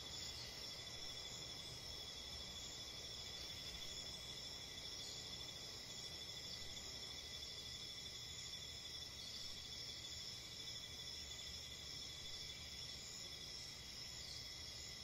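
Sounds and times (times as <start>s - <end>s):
crickets trilling: 0.0s - 15.0s
faint low background noise: 0.0s - 15.0s.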